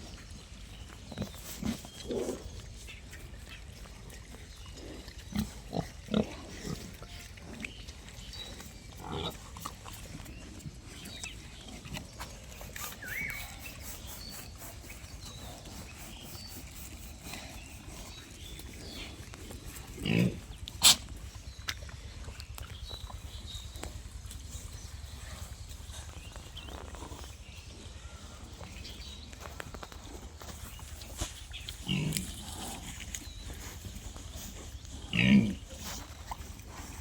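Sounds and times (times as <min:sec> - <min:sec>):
pigs grunting: 0:00.0 - 0:37.0.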